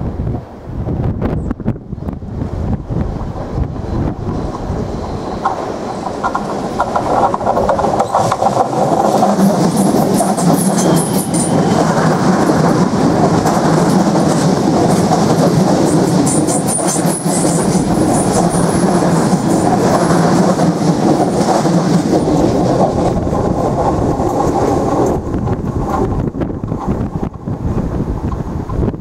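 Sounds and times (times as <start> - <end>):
train wheels rumbling on rail: 0.0 - 29.0
wheels clicking over rail joints: 3.4 - 29.0.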